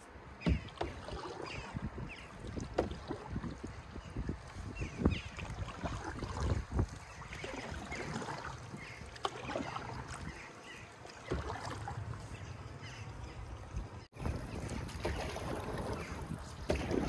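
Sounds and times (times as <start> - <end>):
paddle strokes: 0.0 - 17.0
water lapping against hull: 0.0 - 17.0.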